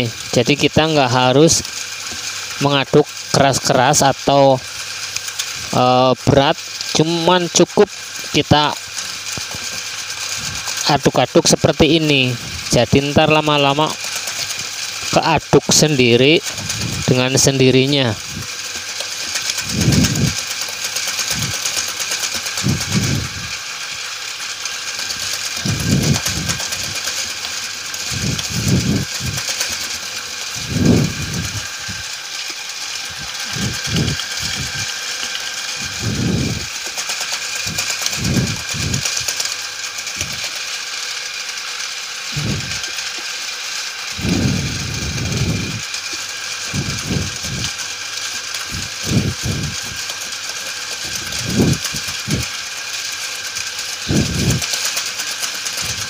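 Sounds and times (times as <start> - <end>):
mixing machine motor whine: 0.0 - 56.0.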